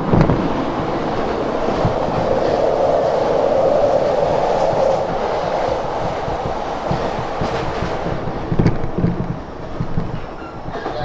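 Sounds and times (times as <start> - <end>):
electric train running noise: 0.0 - 11.0
train passing alongside: 0.0 - 11.0.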